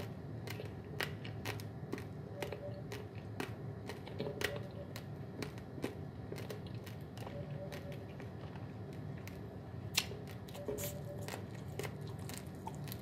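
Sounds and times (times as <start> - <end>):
chewing dry rice crunching: 0.0 - 13.0.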